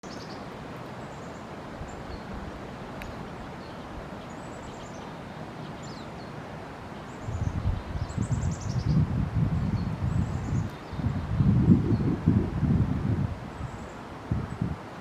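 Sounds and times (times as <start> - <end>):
small birds trilling: 0.0 - 12.2
river rushing: 0.0 - 15.0.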